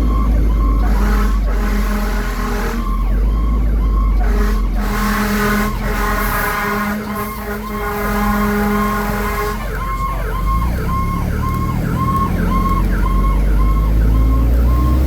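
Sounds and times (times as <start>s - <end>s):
fire engine siren: 0.0s - 15.0s
steady low horn blasts: 0.0s - 15.0s
truck rumbling: 0.0s - 15.0s.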